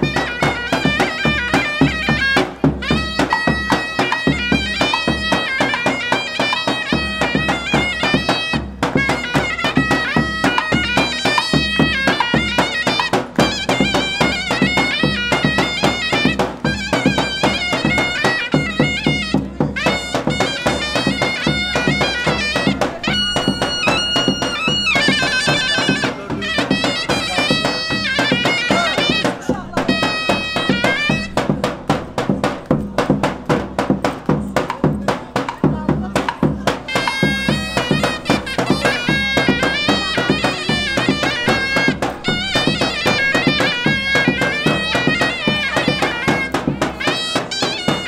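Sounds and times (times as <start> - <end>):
drum beat: 0.0 - 48.0
zurna playing folk dance tune: 0.0 - 48.0.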